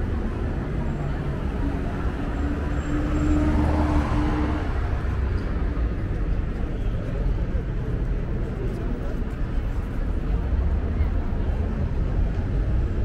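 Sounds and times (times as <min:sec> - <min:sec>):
passing vehicles rumble: 0:00.0 - 0:13.0.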